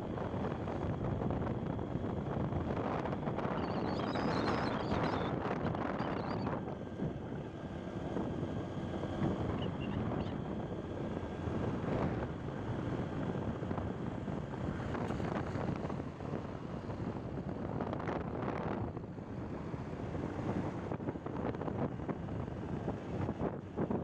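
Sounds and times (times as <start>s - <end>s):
road and engine noise: 0.0s - 24.0s
wind buffeting microphone: 0.0s - 24.0s.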